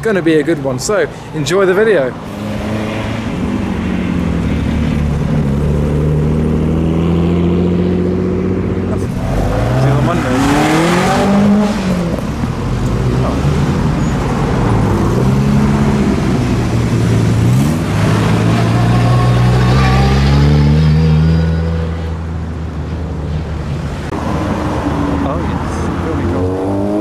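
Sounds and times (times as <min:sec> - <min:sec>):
car engines accelerating: 0:00.0 - 0:27.0.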